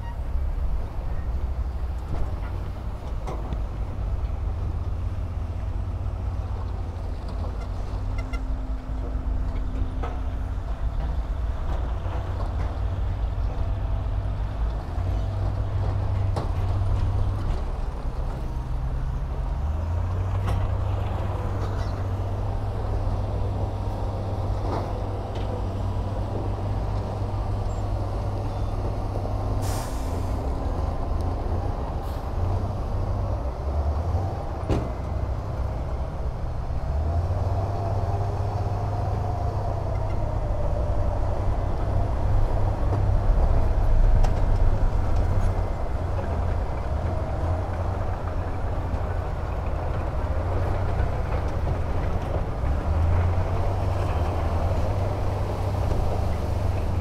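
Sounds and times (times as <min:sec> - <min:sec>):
diesel machinery engine rumble: 0:00.0 - 0:57.0.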